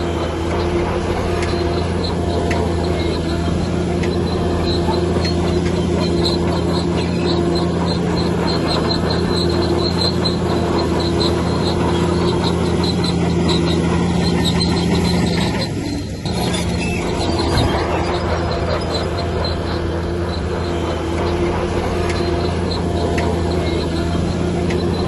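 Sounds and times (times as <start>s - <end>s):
bulldozer diesel engine running: 0.0s - 25.0s
rhythmic high squeak: 0.0s - 25.0s.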